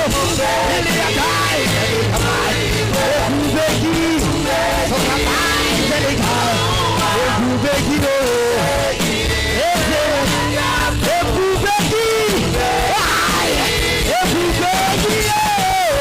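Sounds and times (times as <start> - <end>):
low keyboard or bass notes: 0.0 - 15.6
church worship music: 0.0 - 16.0
drum hits: 0.0 - 16.0
person singing: 0.0 - 16.0.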